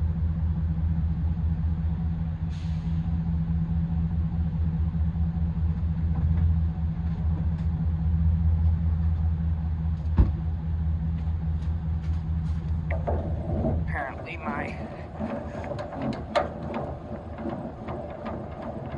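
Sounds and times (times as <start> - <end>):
truck engine rumbling: 0.0 - 18.9.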